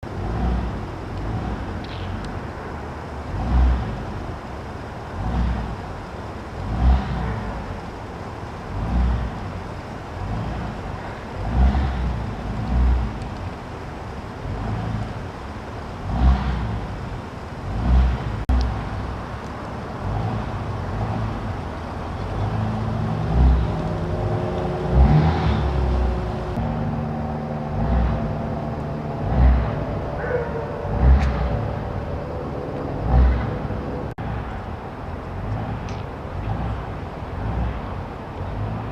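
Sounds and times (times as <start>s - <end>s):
road traffic: 0.0s - 38.9s
steady engine hum: 0.0s - 38.9s.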